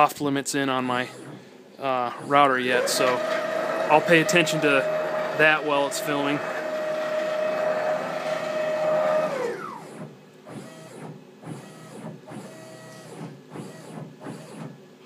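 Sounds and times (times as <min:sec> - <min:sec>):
cnc router motors whining: 0:02.0 - 0:14.8.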